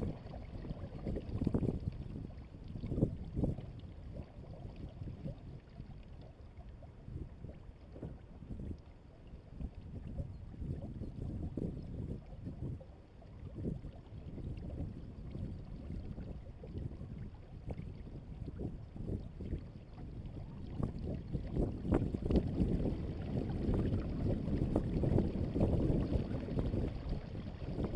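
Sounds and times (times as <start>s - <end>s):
wind buffeting microphone: 0.0s - 5.6s, 9.6s - 12.8s, 13.4s - 27.9s
water rushing along hull: 0.0s - 8.8s, 12.2s - 27.9s.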